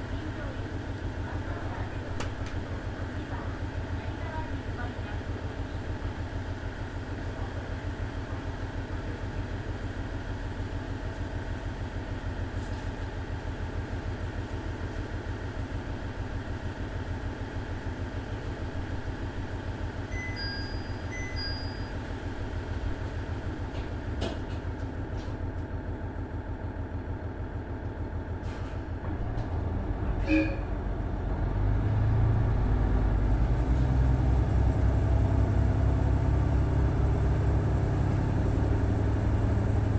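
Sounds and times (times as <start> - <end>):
diesel railcar engine rumble: 0.0 - 39.9.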